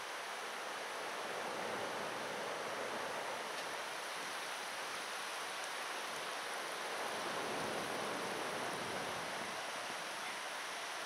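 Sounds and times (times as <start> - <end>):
river water rushing over rapids: 0.0 - 11.0.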